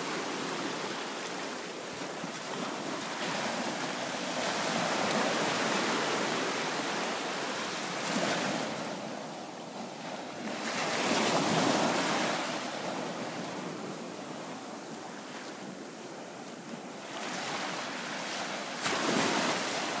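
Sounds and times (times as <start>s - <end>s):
waves washing on sandy beach: 0.0s - 20.0s.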